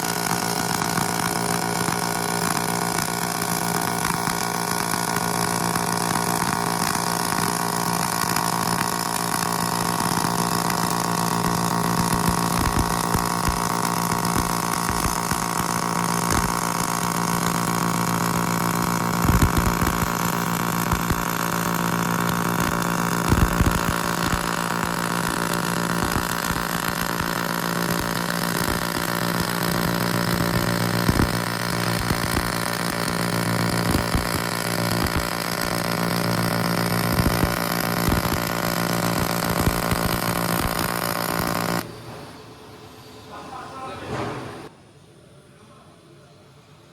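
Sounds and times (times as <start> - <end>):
welding crackles: 0.0 - 41.9
machine hum: 0.0 - 44.0.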